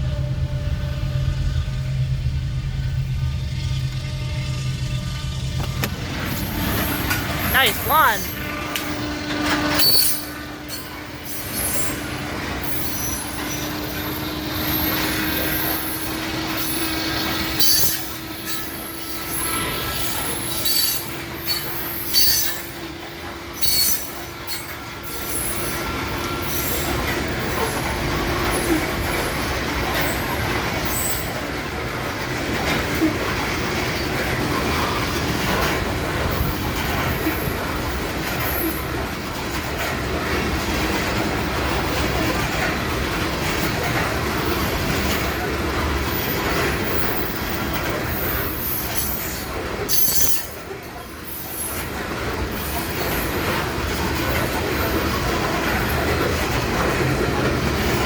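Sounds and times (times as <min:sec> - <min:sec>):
freight cars rolling on rails: 0:00.0 - 0:58.0
wheel squeals: 0:08.2 - 0:58.0.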